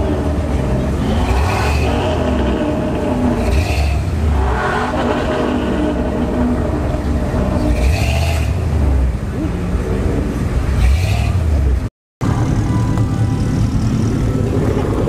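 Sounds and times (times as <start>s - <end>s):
pickup truck engine rumbling: 0.0s - 15.0s.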